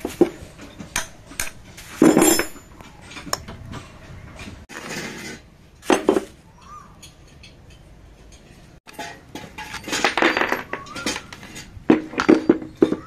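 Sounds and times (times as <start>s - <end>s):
metal tools clanking: 0.0s - 13.0s.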